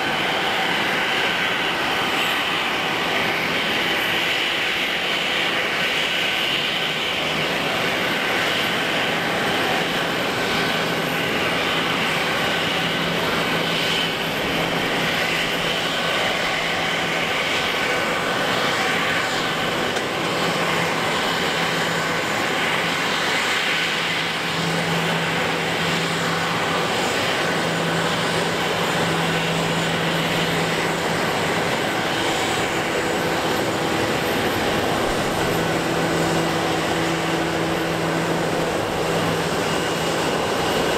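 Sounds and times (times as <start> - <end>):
jet engines with high whine: 0.0 - 40.9.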